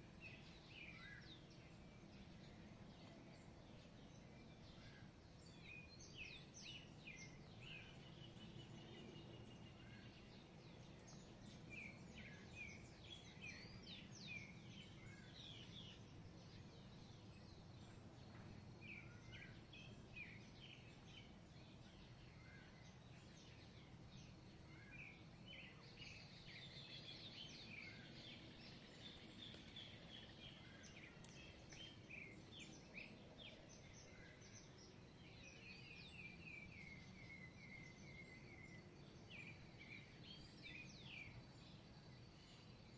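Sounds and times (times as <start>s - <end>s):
birds singing chorus: 0.0s - 42.9s.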